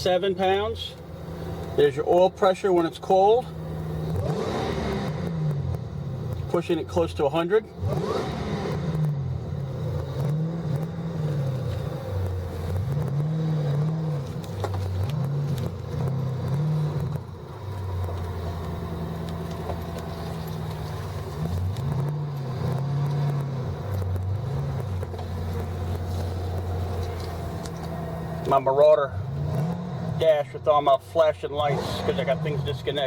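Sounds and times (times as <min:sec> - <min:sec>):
engine accelerating through gears: 0:00.0 - 0:33.0.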